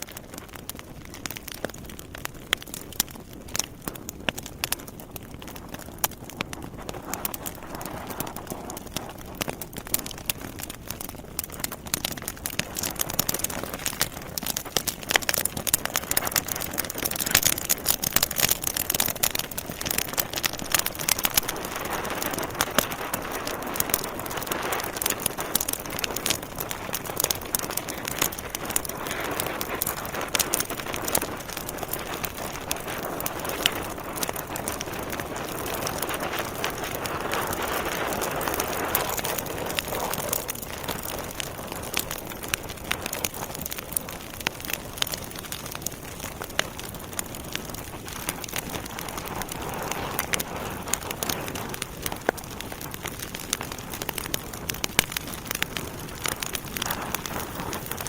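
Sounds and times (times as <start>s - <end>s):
wood logs crackling in fireplace: 0.0s - 58.0s.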